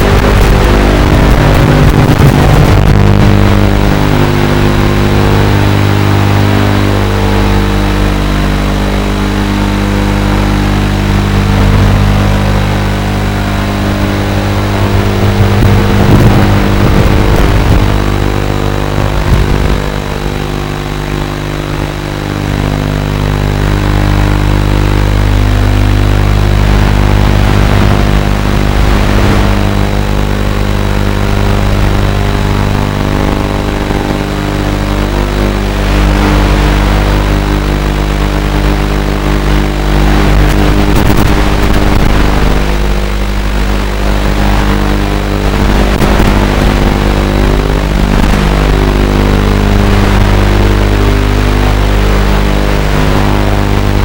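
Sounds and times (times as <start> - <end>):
quadcopter motors buzzing: 0.0 - 54.0.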